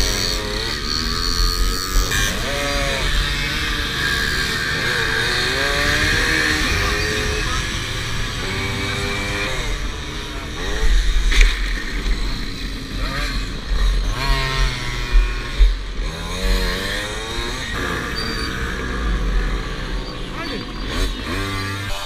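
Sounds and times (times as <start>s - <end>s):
moped engine revving: 0.0s - 22.0s.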